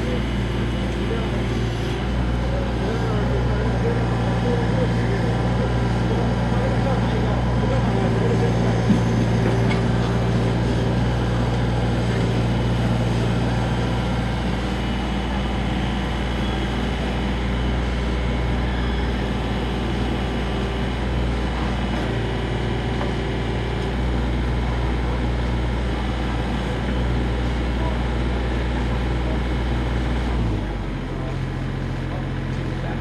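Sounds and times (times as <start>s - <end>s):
excavator engine humming: 0.0s - 33.0s.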